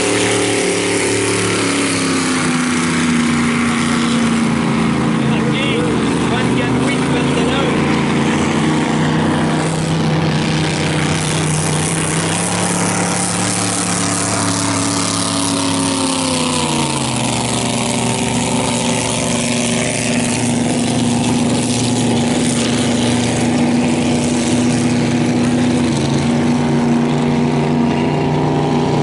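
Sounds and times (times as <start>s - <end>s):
racing boat engine passing: 0.0s - 29.0s.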